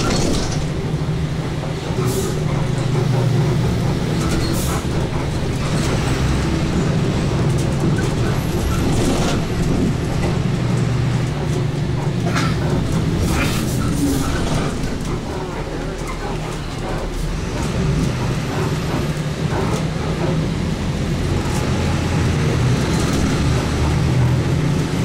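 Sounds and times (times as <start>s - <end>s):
truck engine drone: 0.0s - 25.0s.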